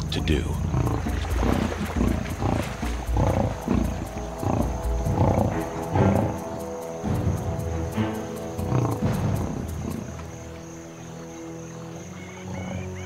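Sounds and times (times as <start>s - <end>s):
background music: 0.0s - 13.0s
lionesses growling: 0.0s - 13.0s.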